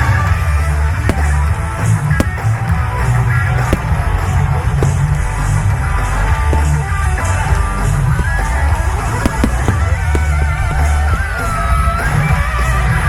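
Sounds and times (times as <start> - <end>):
rock music with guitar and bass: 0.0 - 13.0
sharp cracks: 0.0 - 13.0.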